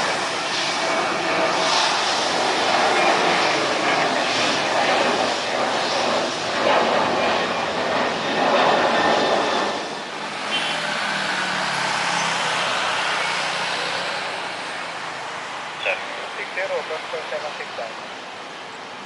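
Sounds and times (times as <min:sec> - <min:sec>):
jet airliner engine rush: 0:00.0 - 0:19.0.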